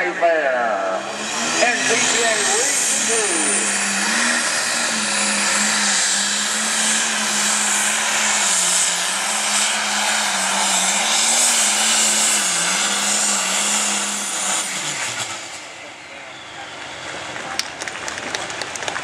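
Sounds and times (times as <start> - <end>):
diesel engine droning under load: 0.0 - 19.0.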